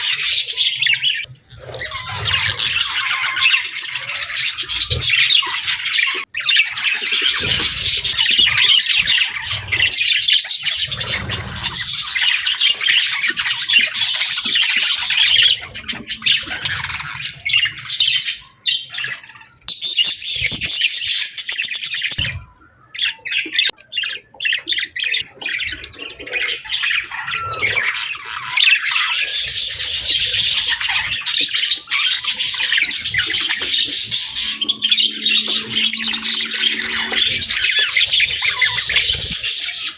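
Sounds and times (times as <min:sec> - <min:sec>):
budgies warbling and chirping: 0:00.0 - 0:39.9.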